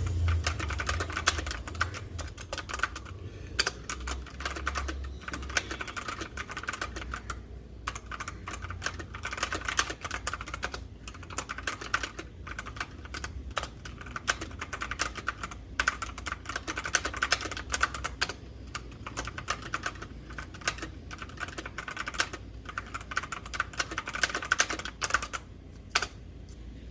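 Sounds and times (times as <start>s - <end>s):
mechanical keyboard typing: 0.0s - 26.2s.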